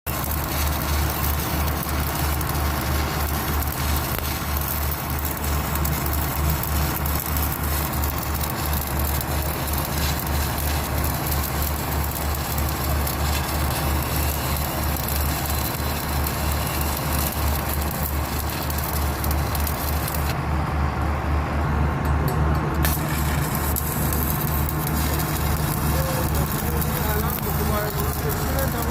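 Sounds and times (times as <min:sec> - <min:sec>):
welding arc crackling: 0:00.0 - 0:20.4, 0:22.5 - 0:28.9
low electrical buzz: 0:00.1 - 0:28.9.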